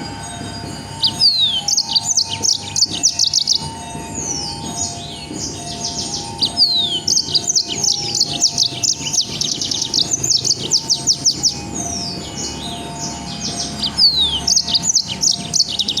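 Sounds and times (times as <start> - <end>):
songbird singing fast sharp notes: 1.0 - 3.7, 5.8 - 16.0.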